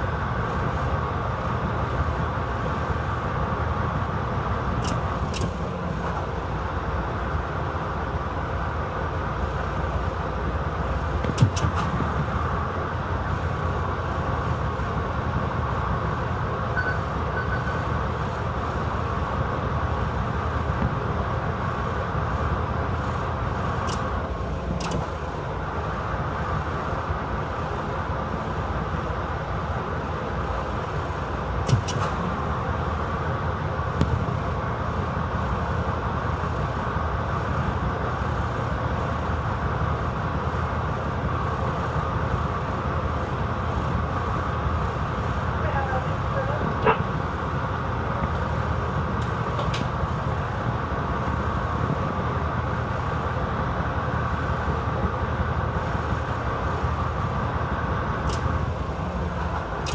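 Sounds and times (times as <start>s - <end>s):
diesel locomotive rumbling: 0.0s - 59.9s
faint steady whine: 0.0s - 59.9s.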